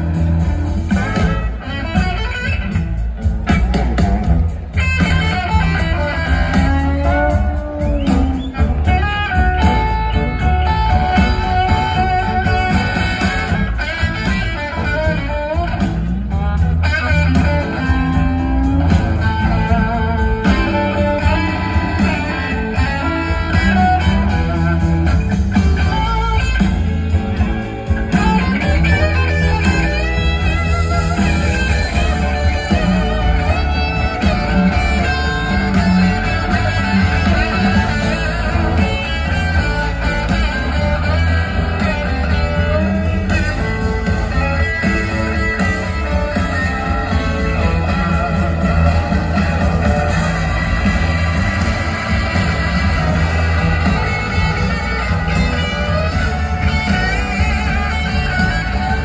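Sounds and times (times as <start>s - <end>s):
blues-rock band playing: 0.0s - 59.0s
electric guitar lead: 0.0s - 59.0s.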